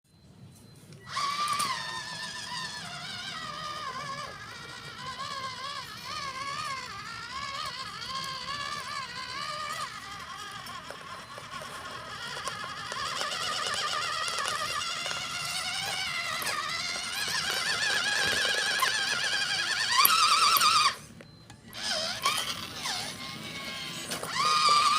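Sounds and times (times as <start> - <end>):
electric motor whining under load: 1.0 - 24.9.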